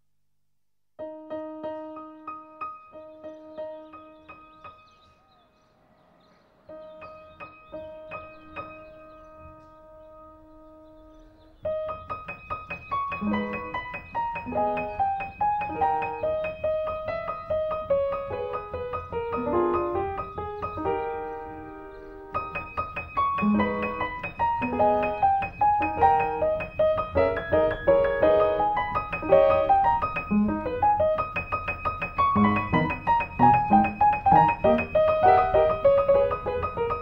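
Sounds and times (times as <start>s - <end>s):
piano music: 1.0s - 37.0s.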